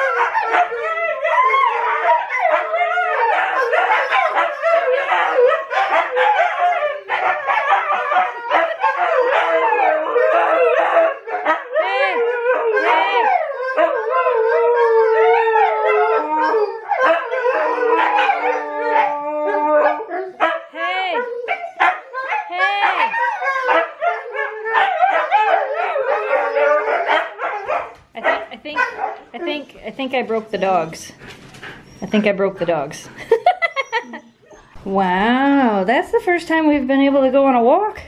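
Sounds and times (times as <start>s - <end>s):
dogs howling and yipping: 0.0s - 29.4s, 33.4s - 34.8s.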